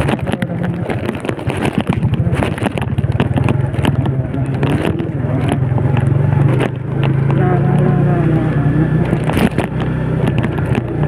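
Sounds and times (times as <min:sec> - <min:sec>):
knocks and rattles from bumps: 0:00.0 - 0:08.0, 0:09.0 - 0:11.0
small motorcycle engine running: 0:00.0 - 0:11.0.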